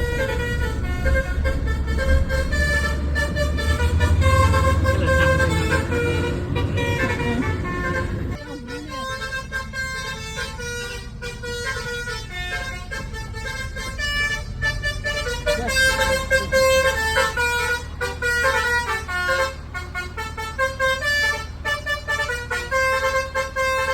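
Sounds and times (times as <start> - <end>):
bus engine rumble: 0.0 - 23.9
multi-tone bus horn tune: 0.0 - 23.9.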